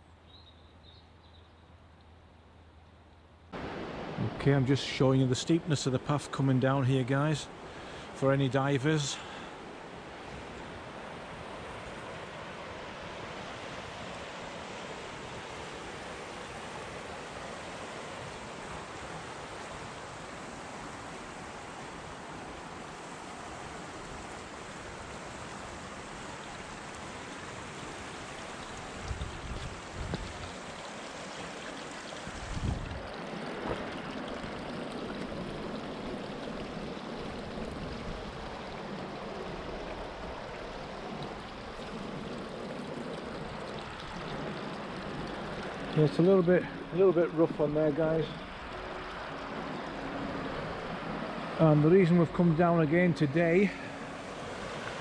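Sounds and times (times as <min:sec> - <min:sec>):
flooded river rushing: 0:03.5 - 0:55.0.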